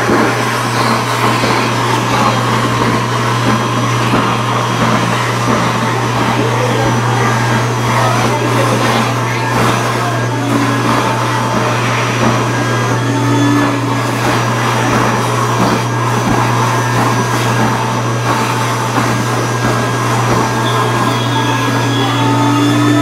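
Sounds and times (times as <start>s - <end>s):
electric blower motor running: 0.0s - 23.0s.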